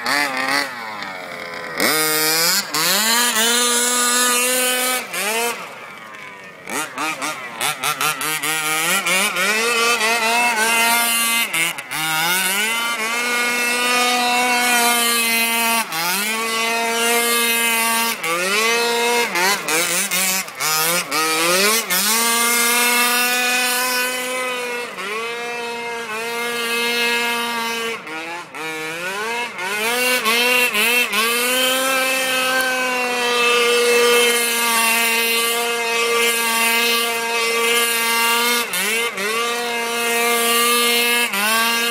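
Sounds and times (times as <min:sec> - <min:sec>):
two-stroke engine revving hard: 0:00.0 - 0:41.9.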